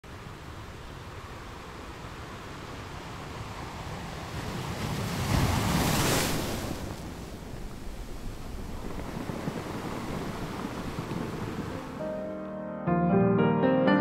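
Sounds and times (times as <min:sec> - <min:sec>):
ocean waves washing: 0:00.1 - 0:12.5.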